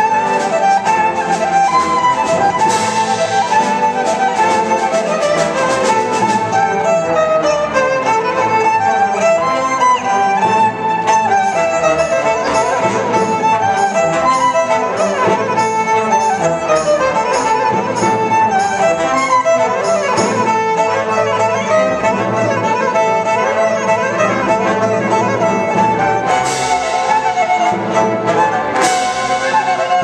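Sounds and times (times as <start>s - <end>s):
percussion strikes: 0.0s - 30.0s
solo violin melody with vibrato: 0.0s - 30.0s
symphony orchestra: 0.0s - 30.0s.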